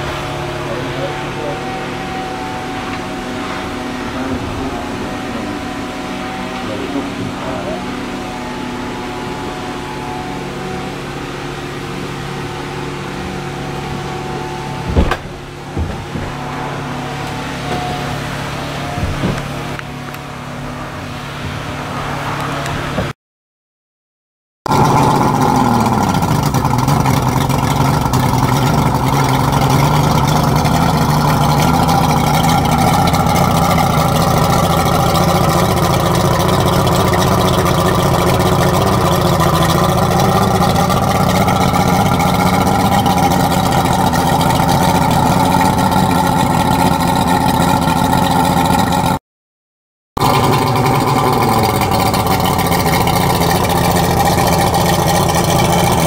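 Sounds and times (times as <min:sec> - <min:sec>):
outboard engines idling: 0:00.0 - 0:23.1, 0:24.7 - 0:49.2, 0:50.2 - 0:56.0.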